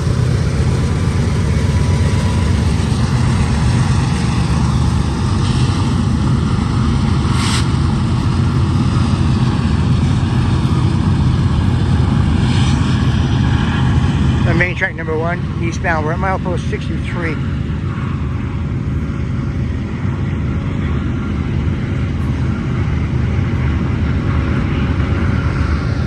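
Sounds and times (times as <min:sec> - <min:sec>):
train clanking or screeching: 0:00.0 - 0:25.8
freight train passing: 0:00.0 - 0:26.0.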